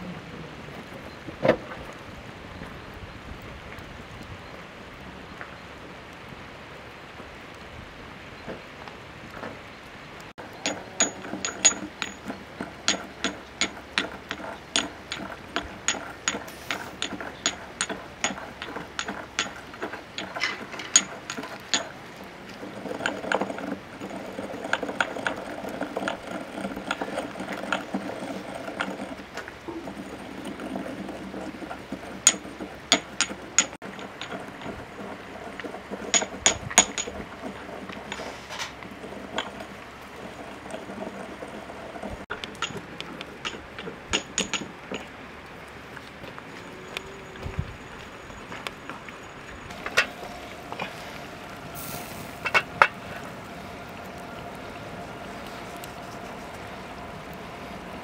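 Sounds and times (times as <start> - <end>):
campfire crackling and hissing: 0.0 - 58.0.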